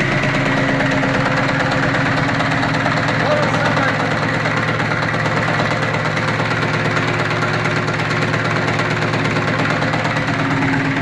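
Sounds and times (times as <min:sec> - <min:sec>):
vacuum pump droning: 0:00.0 - 0:11.0.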